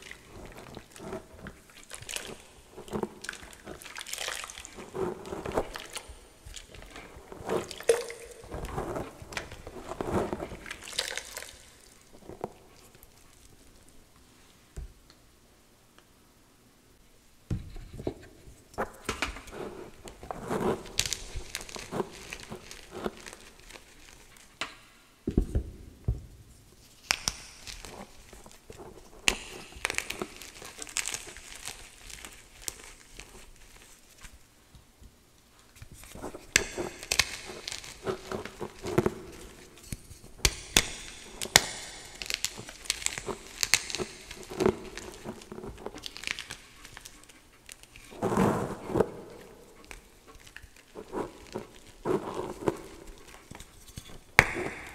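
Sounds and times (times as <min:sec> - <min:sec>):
chalk crunching and crackling: 0:00.0 - 0:14.0, 0:17.7 - 0:24.8, 0:26.7 - 0:34.4, 0:35.5 - 0:54.9
soft squishing of slurry: 0:00.0 - 0:15.2, 0:17.8 - 0:25.0, 0:26.5 - 0:54.9.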